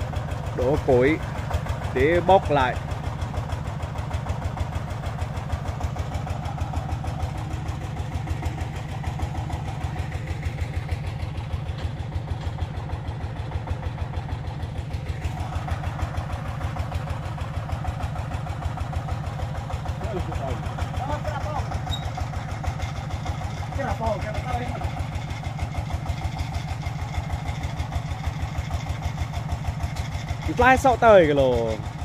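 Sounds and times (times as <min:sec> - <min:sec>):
single-cylinder diesel engine running: 0:00.0 - 0:32.0.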